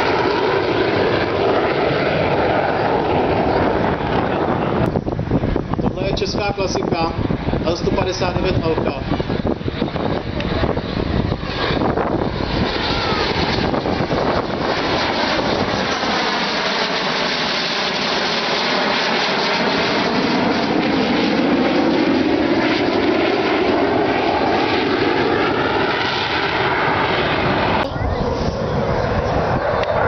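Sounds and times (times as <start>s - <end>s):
jets flying past: 0.0s - 30.0s.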